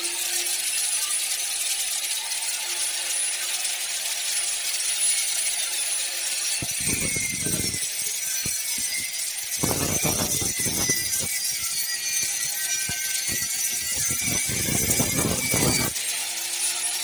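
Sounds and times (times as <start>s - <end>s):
angle grinder cutting steel pipe: 0.0s - 17.0s.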